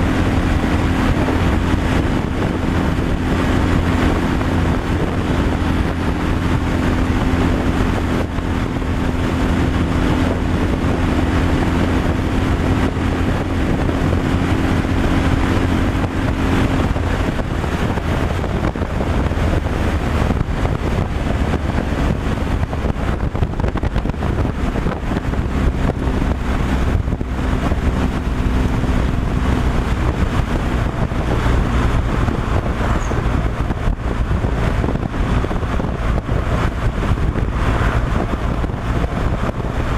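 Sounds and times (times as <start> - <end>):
truck engine drone: 0.0 - 39.9
tyre and wind noise: 0.0 - 39.9.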